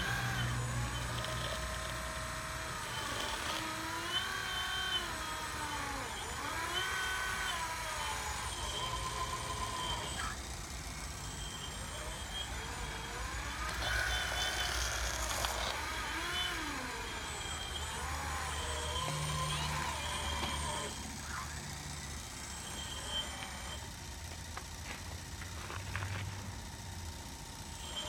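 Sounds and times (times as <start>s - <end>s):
hydraulic pump whining: 0.0s - 28.0s
steady low hum: 0.0s - 28.0s.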